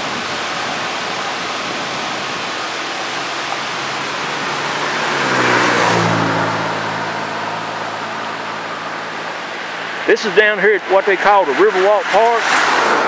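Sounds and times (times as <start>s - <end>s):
car passing: 0.0s - 13.0s
river water rushing over boulders: 0.0s - 13.0s.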